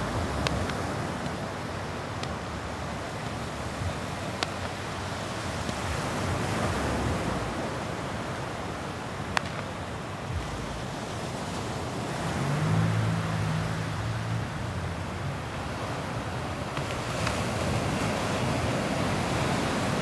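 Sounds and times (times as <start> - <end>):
small waves washing on beach: 0.0 - 20.0.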